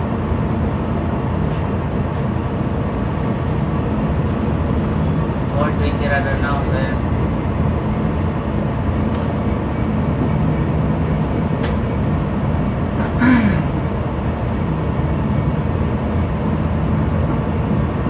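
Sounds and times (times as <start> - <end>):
ship engine low rumble: 0.0 - 18.0
steady noise haze: 0.0 - 18.0.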